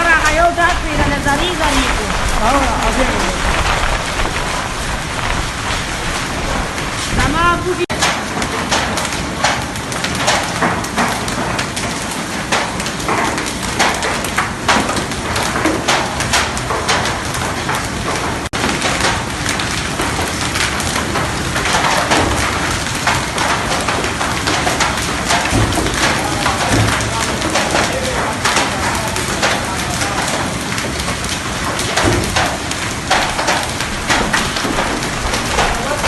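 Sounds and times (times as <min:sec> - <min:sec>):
hailstones clicking on surfaces: 0:00.0 - 0:36.0
heavy rain hiss: 0:00.0 - 0:36.0.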